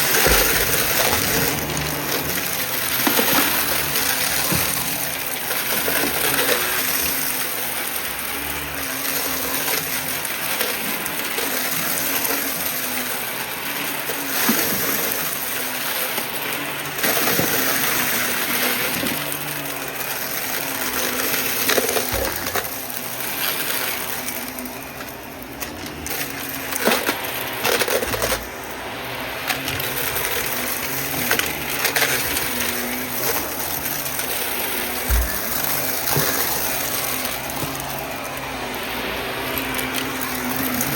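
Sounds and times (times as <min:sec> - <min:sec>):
debris clicking and rattling: 0:00.0 - 0:40.9
vacuum cleaner motor whine: 0:00.0 - 0:40.9.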